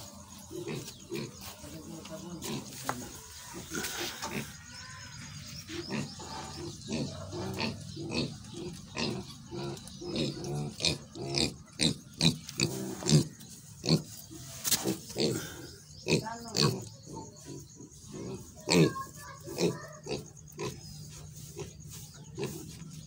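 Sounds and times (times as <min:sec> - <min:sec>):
young pigs grunting: 0:00.0 - 0:23.0.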